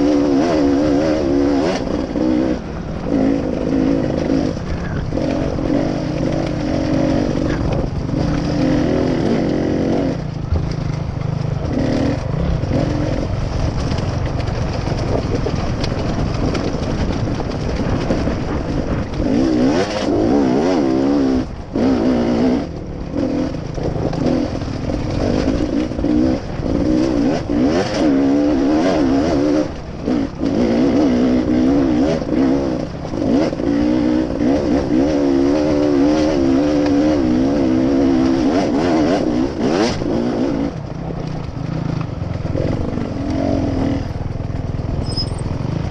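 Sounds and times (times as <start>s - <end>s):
motorcycle engine revving: 0.0s - 45.9s
wind noise: 0.0s - 45.9s.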